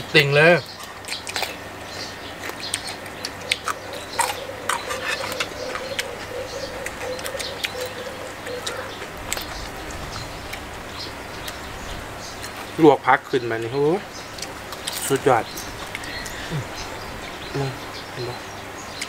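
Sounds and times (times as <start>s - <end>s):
crunching and chewing: 0.6s - 12.8s, 13.6s - 17.0s.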